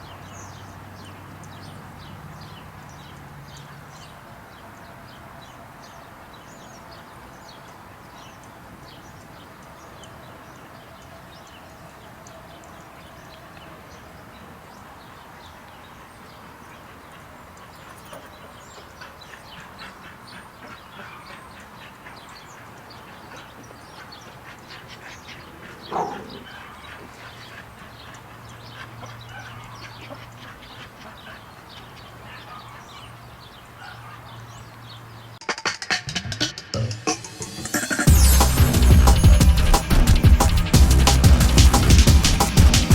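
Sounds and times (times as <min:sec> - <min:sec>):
small birds chirping: 0:00.0 - 0:35.4.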